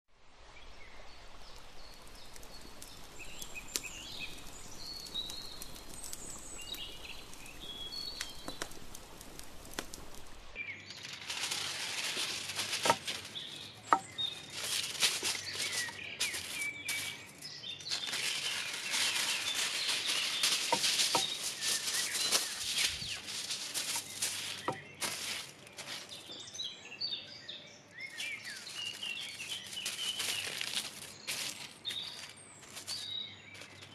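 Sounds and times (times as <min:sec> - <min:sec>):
birds chirping: 0:00.7 - 0:11.1, 0:12.4 - 0:33.9
aluminium foil crinkling: 0:01.8 - 0:26.4, 0:28.1 - 0:33.9.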